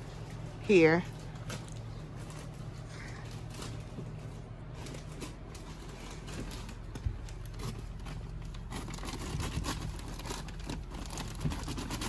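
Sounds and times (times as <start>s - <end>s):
insulation rustling and scraping: 0.0s - 12.0s
steady low hum: 0.0s - 12.0s.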